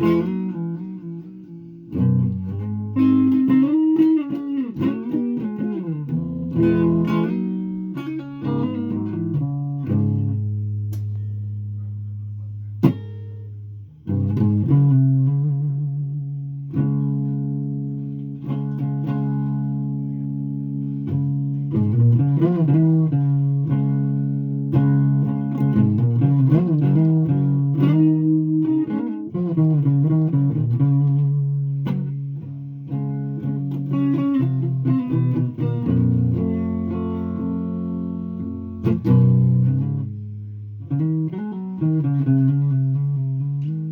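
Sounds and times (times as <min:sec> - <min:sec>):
guitar chords ringing: 0:00.0 - 0:43.9.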